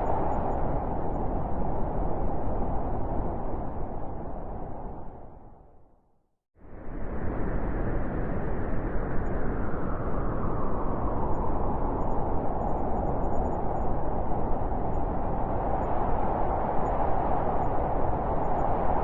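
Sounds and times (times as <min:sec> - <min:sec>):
howling blizzard wind: 0:00.0 - 0:06.0, 0:06.6 - 0:19.0.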